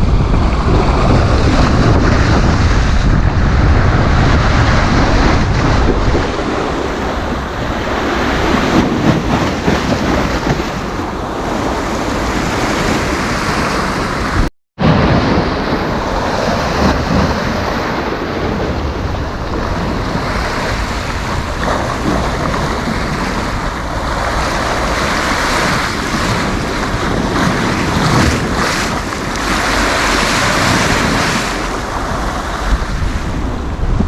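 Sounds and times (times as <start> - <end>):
sea waves breaking on beach: 0.0 - 34.0
wind buffeting microphone: 0.0 - 34.0.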